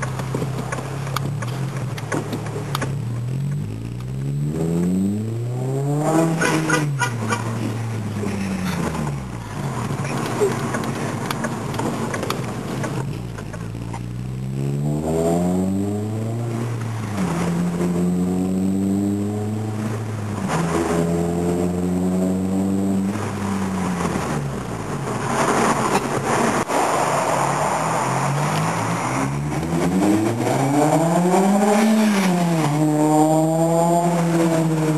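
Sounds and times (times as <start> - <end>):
car exhaust under acceleration: 0.0 - 34.9.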